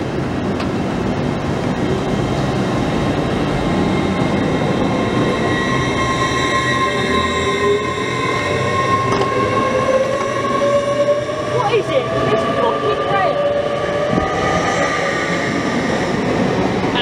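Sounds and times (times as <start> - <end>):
train wheels rumbling on rails: 0.0 - 17.0
train whine rising in pitch: 0.1 - 17.0.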